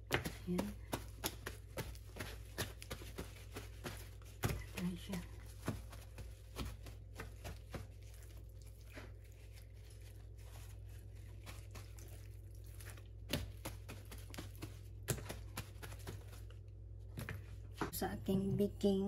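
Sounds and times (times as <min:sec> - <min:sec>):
paper towel rustling and crinkling: 0:00.0 - 0:17.8
wet chicken skin squishing: 0:00.4 - 0:17.2.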